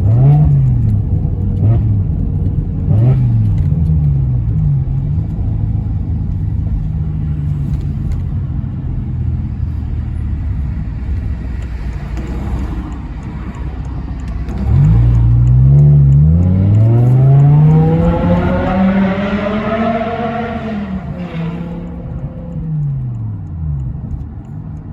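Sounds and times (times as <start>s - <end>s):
car engine revving: 0.0s - 8.3s, 9.3s - 24.9s.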